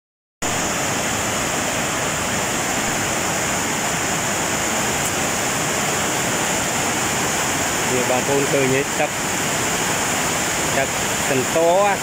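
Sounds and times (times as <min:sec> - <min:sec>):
river rushing over rocks: 0:00.4 - 0:12.0.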